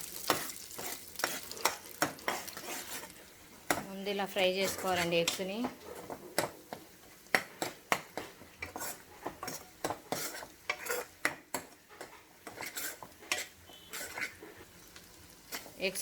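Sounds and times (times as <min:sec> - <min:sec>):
faint oil sizzle: 0:00.0 - 0:16.0
metal spatula scraping pan: 0:00.2 - 0:06.6, 0:07.3 - 0:14.8, 0:15.4 - 0:16.0.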